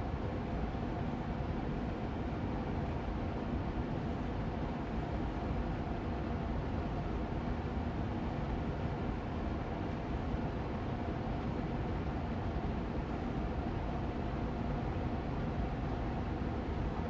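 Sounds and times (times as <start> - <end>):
air purifier fan running: 0.0 - 17.0.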